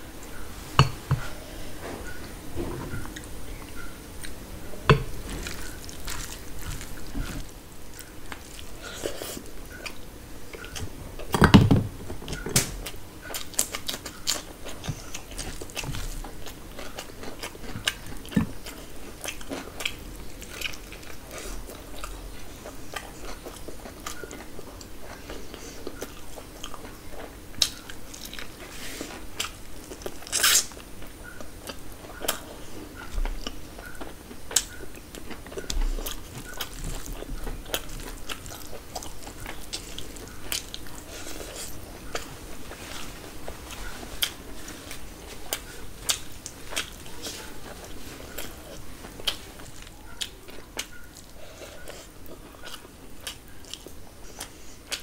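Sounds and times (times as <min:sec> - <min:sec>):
chewing and biting food: 0:05.2 - 0:11.5, 0:12.3 - 0:55.0.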